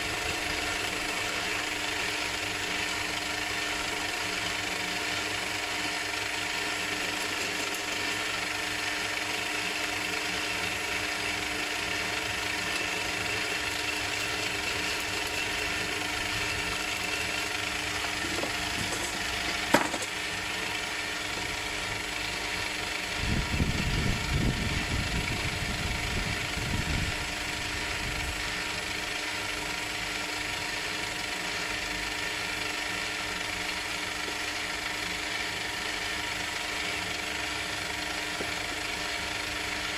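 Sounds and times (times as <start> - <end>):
metal lathe whirring: 0.0 - 39.9.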